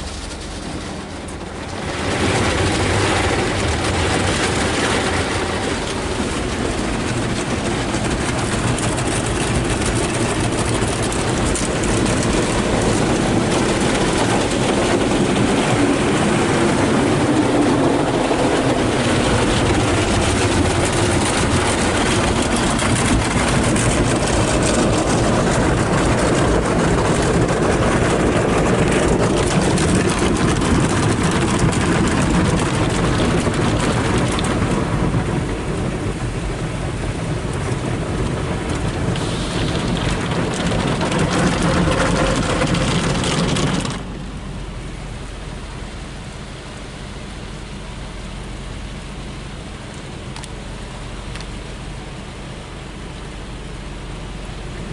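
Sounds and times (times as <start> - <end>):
water spraying onto car: 0.0 - 54.9.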